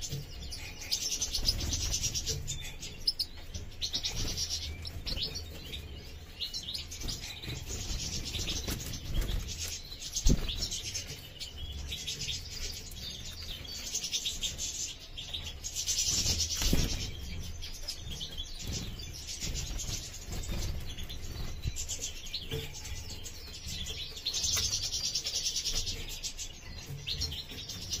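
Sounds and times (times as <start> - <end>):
goldfinches twittering and chirping: 0.0 - 28.0.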